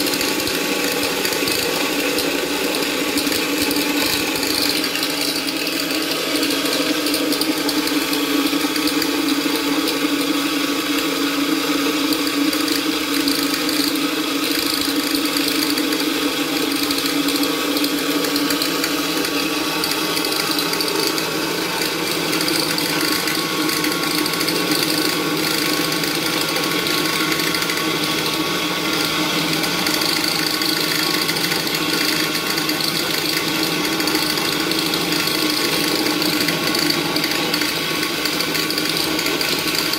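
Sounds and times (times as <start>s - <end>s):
electric grinder whirring and whining: 0.0s - 39.9s.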